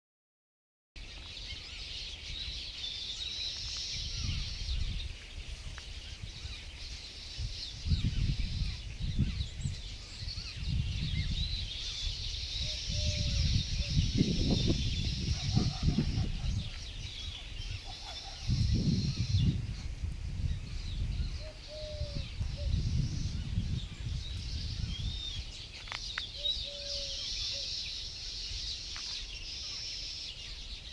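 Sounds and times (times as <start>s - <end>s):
small birds chirping: 1.0s - 30.9s.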